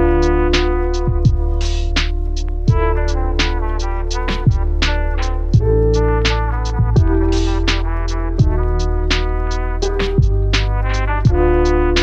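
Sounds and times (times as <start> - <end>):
deep kick drum beat: 0.0 - 12.0
held synth chords: 0.0 - 12.0.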